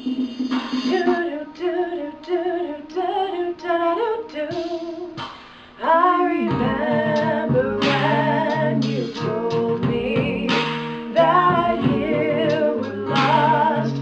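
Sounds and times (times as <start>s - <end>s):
backing music with bass: 0.0s - 14.0s
woman singing: 0.8s - 14.0s.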